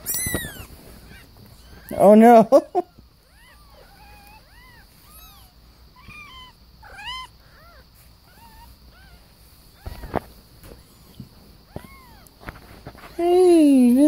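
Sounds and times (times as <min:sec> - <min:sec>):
kittens mewing: 0:00.0 - 0:12.4.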